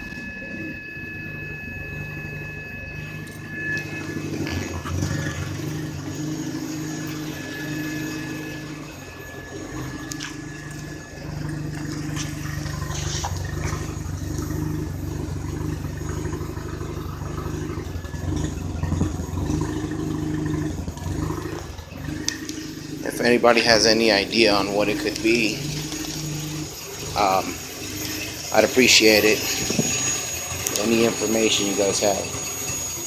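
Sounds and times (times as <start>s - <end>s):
rotary engine running rough: 0.0s - 33.0s.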